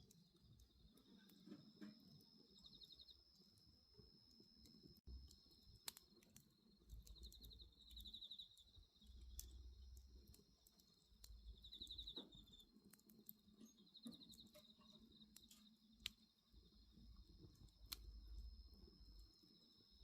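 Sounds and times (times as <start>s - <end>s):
bonfire crackling and popping: 0.0s - 20.0s
insects trilling: 0.0s - 20.0s.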